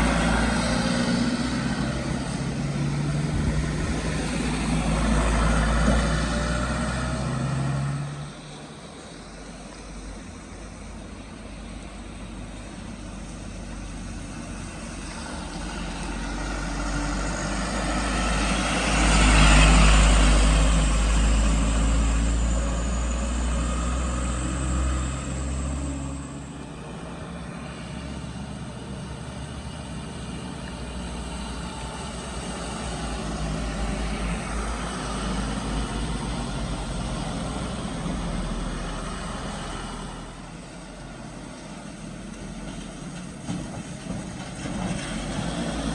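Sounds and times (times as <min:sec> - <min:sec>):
heavy vehicle engines passing: 0:00.0 - 0:45.9.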